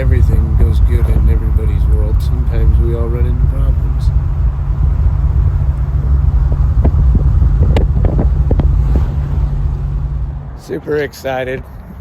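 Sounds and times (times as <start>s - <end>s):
road and wind rumble: 0.0s - 12.0s.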